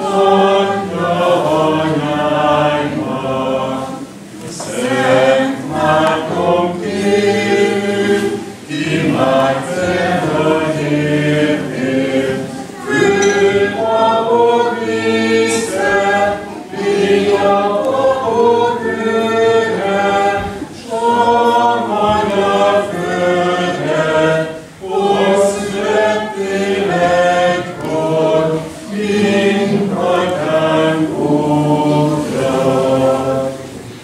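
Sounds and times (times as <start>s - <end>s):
group singing unaccompanied: 0.0s - 34.0s.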